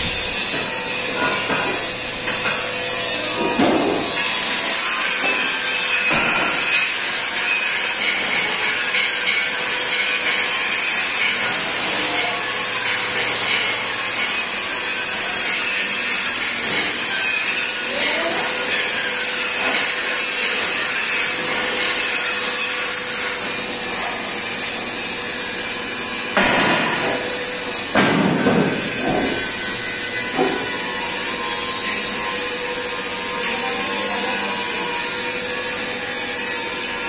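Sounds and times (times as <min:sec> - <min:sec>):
power tool hissing on steel: 0:00.0 - 0:37.0.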